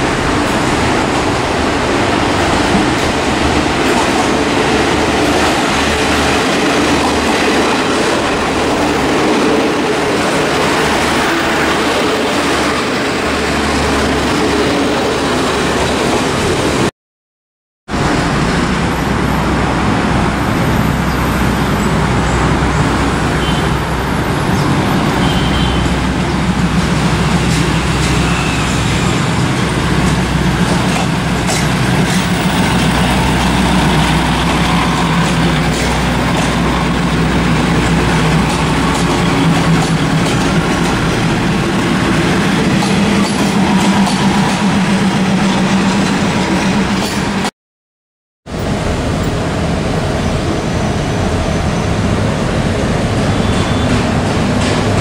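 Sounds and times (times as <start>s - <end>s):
diesel railcar engine running: 0.0s - 16.9s, 18.0s - 47.5s, 48.5s - 55.0s.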